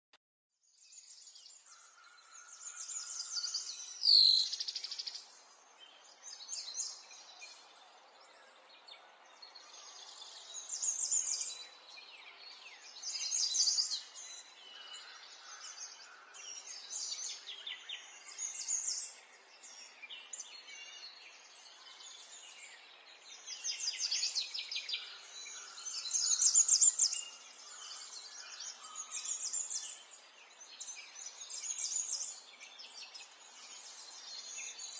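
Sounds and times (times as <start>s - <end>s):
songbirds trilling: 1.2s - 34.9s.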